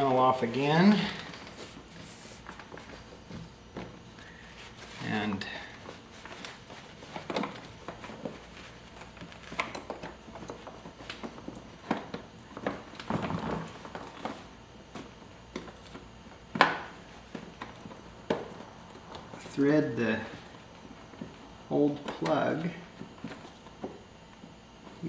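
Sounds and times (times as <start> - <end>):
rustling of wiring and trim: 0.0 - 25.0.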